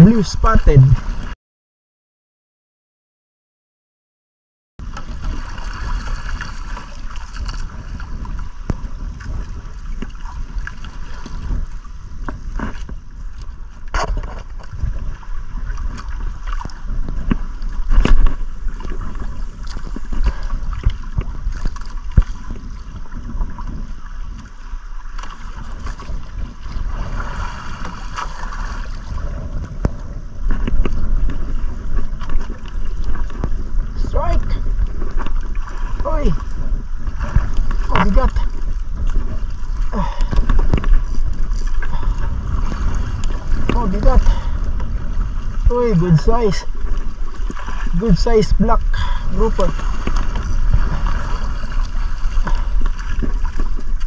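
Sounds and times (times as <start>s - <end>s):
wind rumbling on microphone: 0.0s - 1.4s, 4.8s - 54.0s
knocks and clicks from boat: 4.8s - 26.9s, 27.8s - 54.0s
water sloshing around boat: 4.8s - 54.0s.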